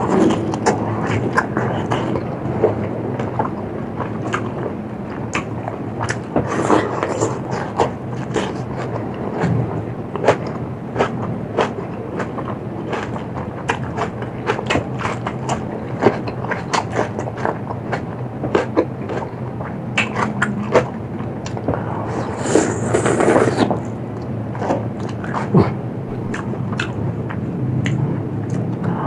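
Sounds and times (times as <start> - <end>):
crunchy food crunching: 0.0 - 28.8
wet chewing clicks: 0.0 - 29.0.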